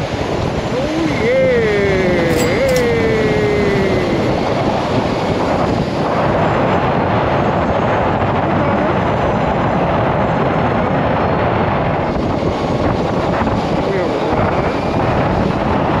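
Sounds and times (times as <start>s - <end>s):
rushing wind and road noise: 0.0s - 16.0s.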